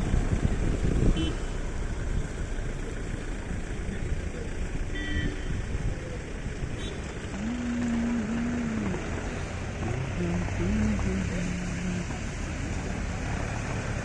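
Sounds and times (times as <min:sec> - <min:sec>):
floodwater rushing in river: 0:00.0 - 0:14.0.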